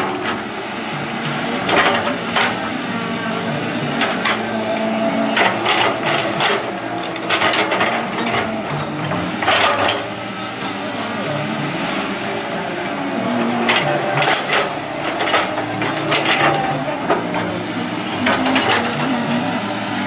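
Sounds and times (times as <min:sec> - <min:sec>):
diesel engine running: 0:00.0 - 0:20.0
excavator bucket clanking and scraping: 0:00.0 - 0:20.0.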